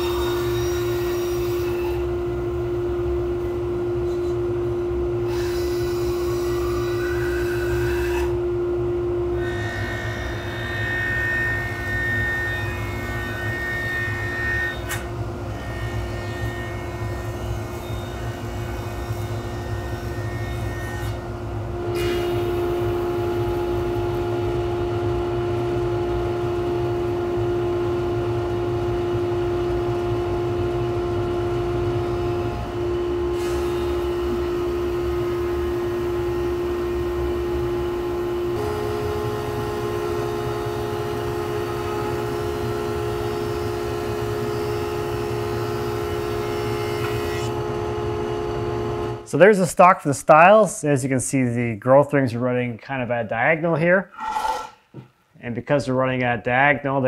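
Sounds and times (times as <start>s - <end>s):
thickness planer running: 0.0s - 49.3s.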